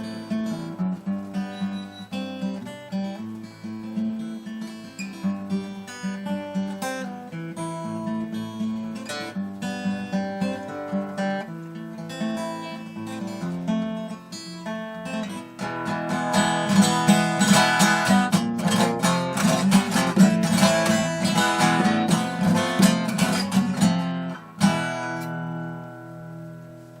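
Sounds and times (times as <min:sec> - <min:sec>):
acoustic guitar picked and strummed: 0:00.0 - 0:27.0.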